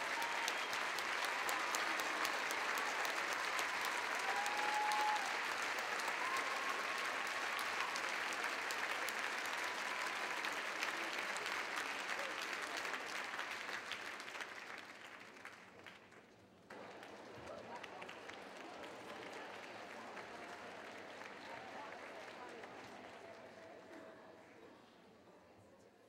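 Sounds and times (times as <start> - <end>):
audience clapping: 0.0 - 24.0.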